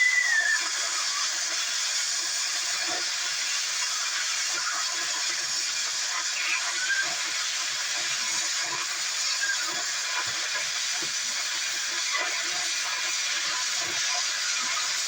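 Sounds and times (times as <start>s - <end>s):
cutting torch hissing: 0.0s - 15.0s.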